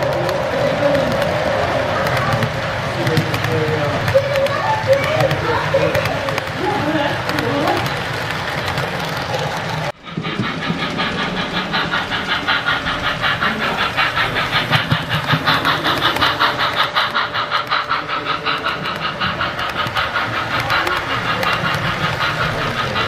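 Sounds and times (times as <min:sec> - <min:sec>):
model steam train chugging: 0:00.0 - 0:23.0
steam hiss: 0:00.0 - 0:23.0.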